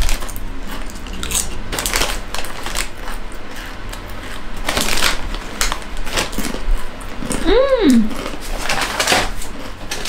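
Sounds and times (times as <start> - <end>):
chips being chewed: 0.0 - 10.0.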